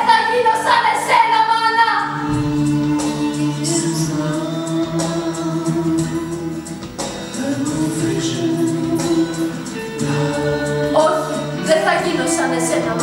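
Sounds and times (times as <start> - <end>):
voices singing held notes: 0.0 - 13.0.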